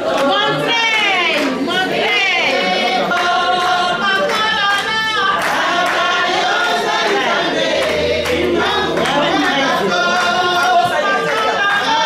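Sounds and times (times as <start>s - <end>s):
women singing in chorus: 0.0s - 12.0s.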